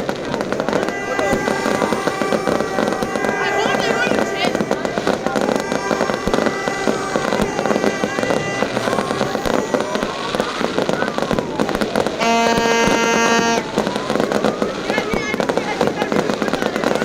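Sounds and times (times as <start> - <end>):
fireworks cracking and popping: 0.0 - 17.0
fireworks whistling: 0.0 - 17.0
horn steady note: 0.0 - 17.0.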